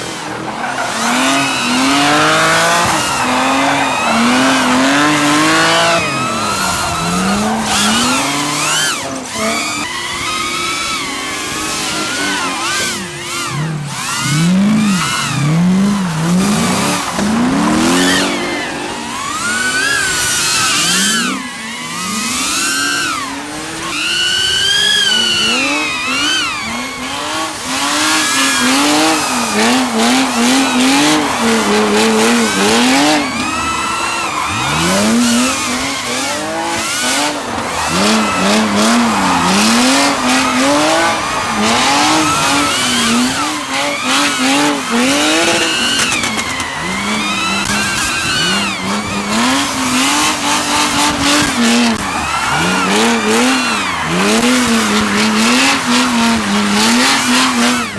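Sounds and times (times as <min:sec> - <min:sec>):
car engines revving: 0:00.0 - 0:57.9
tyres squealing and skidding: 0:00.0 - 0:57.9.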